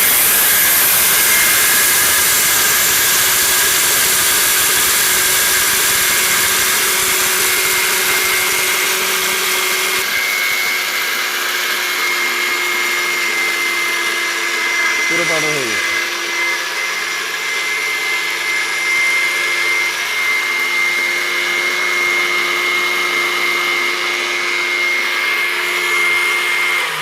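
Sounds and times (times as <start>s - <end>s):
mixer grinder motor whining: 0.0s - 27.0s.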